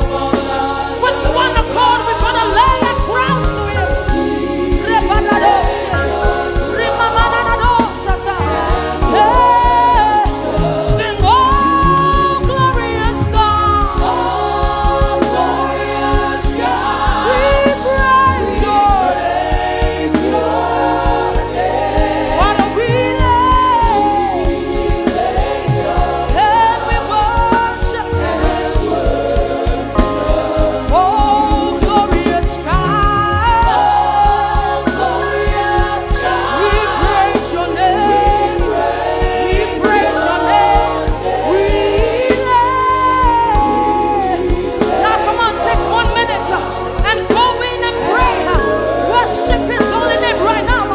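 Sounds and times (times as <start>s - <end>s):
gospel singing with band: 0.0s - 50.9s.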